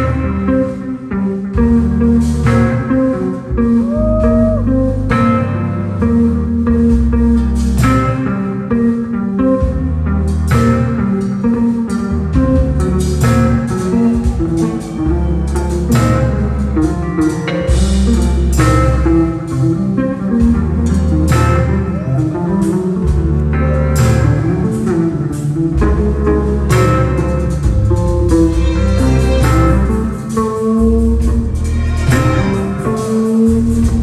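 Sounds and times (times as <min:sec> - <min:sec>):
electric bass solo: 0:00.0 - 0:34.0
jazz-funk band playing: 0:00.0 - 0:34.0.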